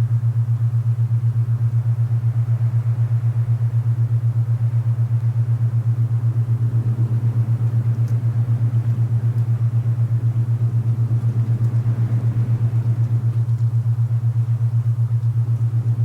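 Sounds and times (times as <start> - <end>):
low pulsing tone: 0.0 - 16.0
soft rushing wind: 1.9 - 14.8.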